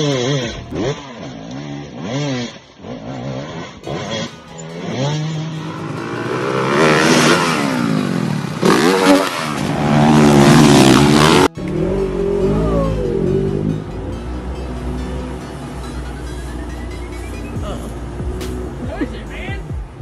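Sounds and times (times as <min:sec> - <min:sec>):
engine sound: 0:00.0 - 0:20.0
off-road engines revving: 0:00.0 - 0:20.0.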